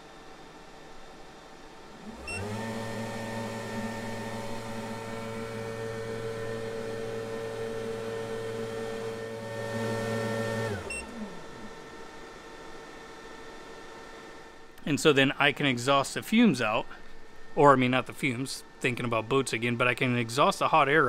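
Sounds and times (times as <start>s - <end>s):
blower fan motor hum: 0.0s - 21.0s.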